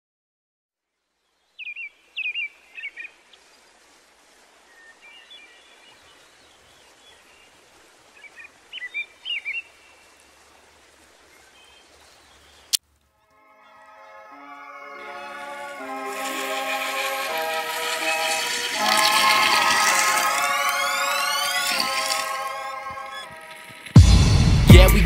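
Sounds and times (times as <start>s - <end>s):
faint outdoor hiss: 0.8s - 24.3s
songbird chirping: 1.2s - 24.2s.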